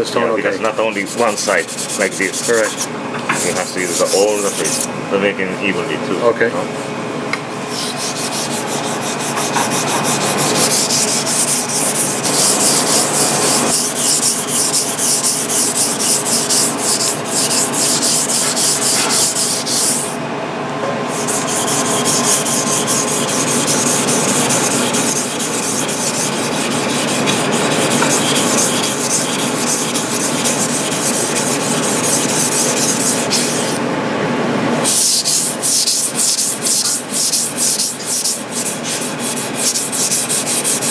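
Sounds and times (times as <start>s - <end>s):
knife grinding on whetstone: 0.8s - 4.9s, 7.7s - 20.2s, 21.1s - 33.8s, 34.8s - 40.9s.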